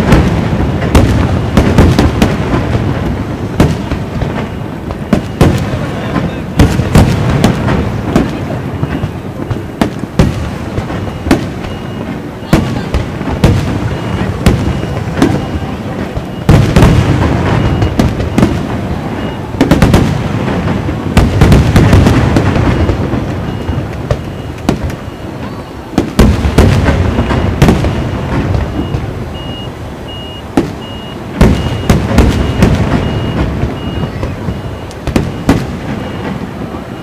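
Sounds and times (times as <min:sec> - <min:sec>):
fireworks bursting with bangs: 0:00.0 - 0:37.0.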